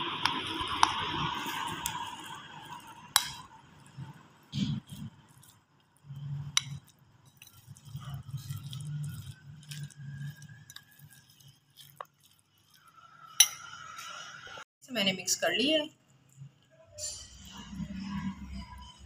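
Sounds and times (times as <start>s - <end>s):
spoon scraping glass bowl: 0.3s - 14.4s, 16.8s - 19.0s.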